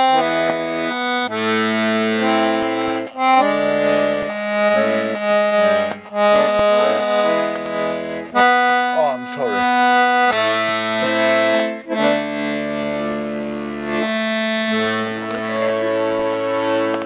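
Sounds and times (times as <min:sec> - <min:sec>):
accordion playing a song: 0:00.0 - 0:17.0.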